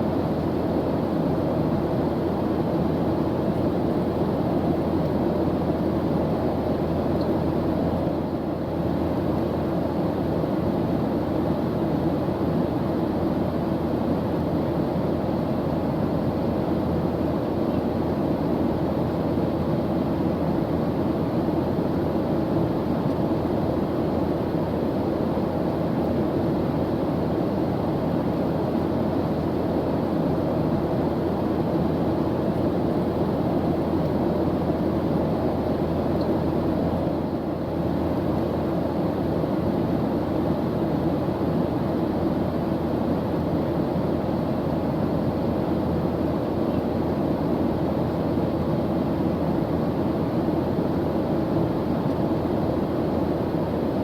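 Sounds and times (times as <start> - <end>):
airplane engine drone: 0.0 - 54.0.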